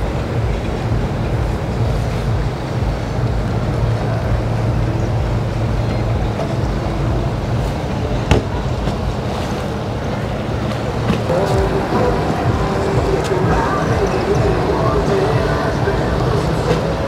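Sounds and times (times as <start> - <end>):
boat motor humming: 0.0 - 17.0
choppy water: 0.0 - 17.0.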